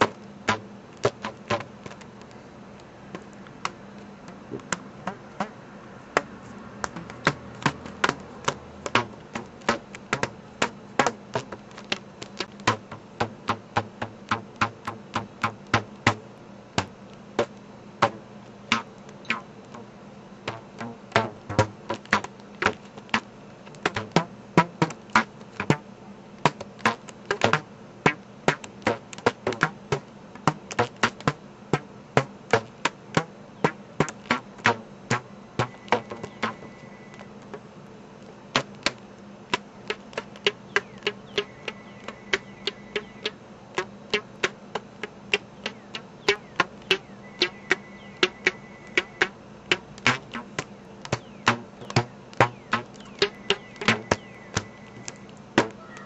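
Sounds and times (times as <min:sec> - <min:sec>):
rubber band twanging: 0:00.0 - 0:02.0, 0:03.1 - 0:05.6, 0:06.2 - 0:16.2, 0:16.8 - 0:19.8, 0:20.5 - 0:25.8, 0:26.4 - 0:36.7, 0:38.5 - 0:54.7, 0:55.6 - 0:55.8.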